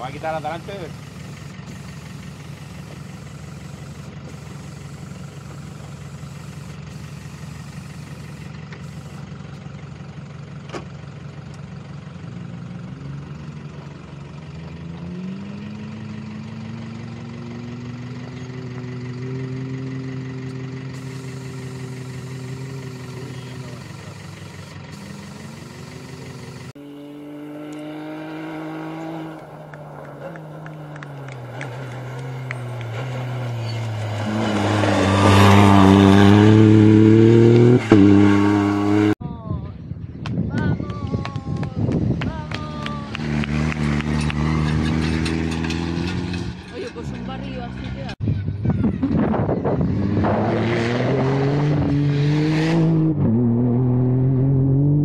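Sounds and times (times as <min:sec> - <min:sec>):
rally car accelerating on gravel: 0:00.0 - 0:09.7, 0:12.2 - 0:39.2, 0:43.0 - 0:48.2, 0:49.6 - 0:55.0
engine idling and revving: 0:00.0 - 0:39.3, 0:39.9 - 0:55.0.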